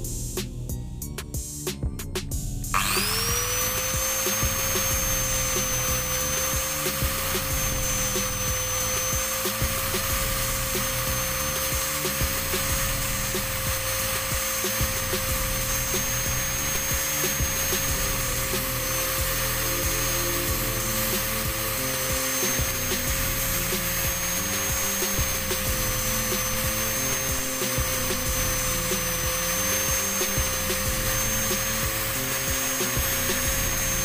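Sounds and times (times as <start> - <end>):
background music with a beat: 0.0 - 34.0
angle grinder running: 2.7 - 34.0.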